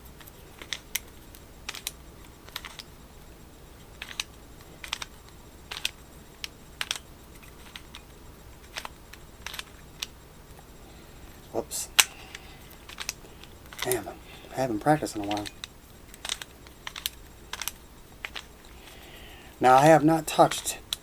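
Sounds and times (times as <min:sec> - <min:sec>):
plastic puzzle clicking as twisted: 0:00.2 - 0:02.9, 0:03.8 - 0:10.2, 0:11.3 - 0:19.9.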